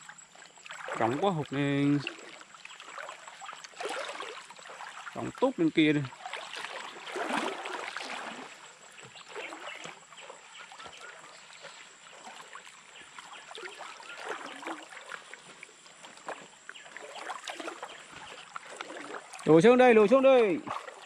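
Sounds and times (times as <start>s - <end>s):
water splashing from wading: 0.0s - 21.0s.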